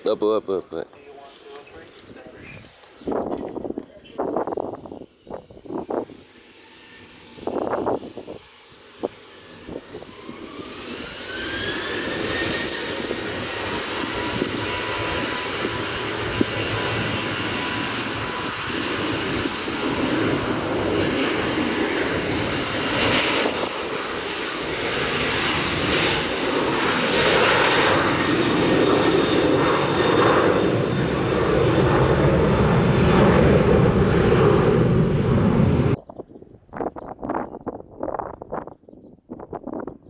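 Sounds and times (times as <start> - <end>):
jet engine roar: 0.0 - 38.7.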